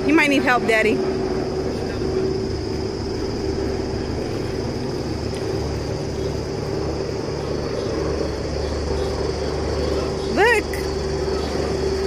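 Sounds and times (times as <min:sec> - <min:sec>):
faint high whine: 0:00.0 - 0:12.0
low rumble: 0:00.0 - 0:12.0
mechanical hum: 0:00.0 - 0:12.0.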